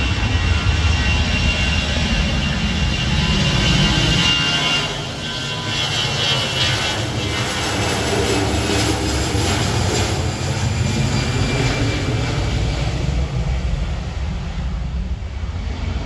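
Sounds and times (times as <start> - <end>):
aeroplane engines rumbling: 0.0 - 16.0.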